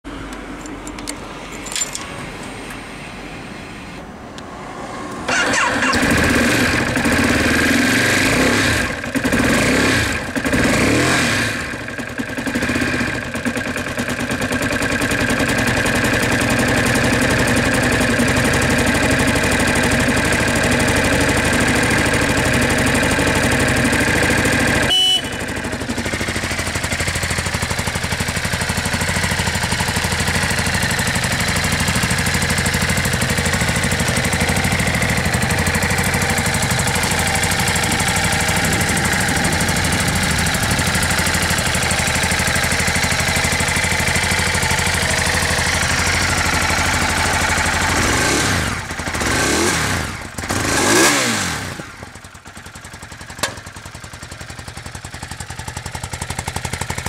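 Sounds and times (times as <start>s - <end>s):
motorcycle engine revving and idling: 5.3s - 57.0s.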